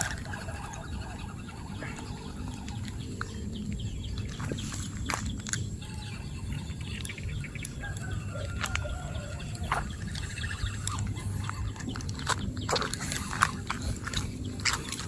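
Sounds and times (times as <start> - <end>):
faint birds chirping: 0.0 - 15.0
steady low rumble: 0.0 - 15.0.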